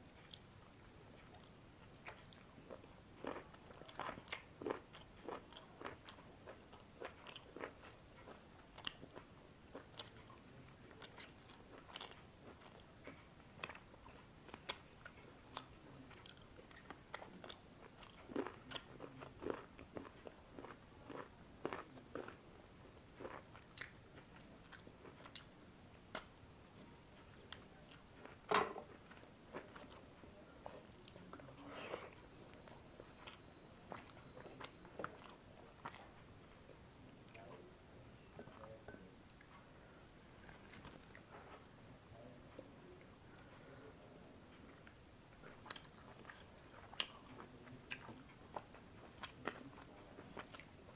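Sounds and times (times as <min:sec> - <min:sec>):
person chewing food: 0:00.1 - 0:26.3, 0:27.3 - 0:37.7, 0:40.4 - 0:41.7, 0:44.7 - 0:50.9.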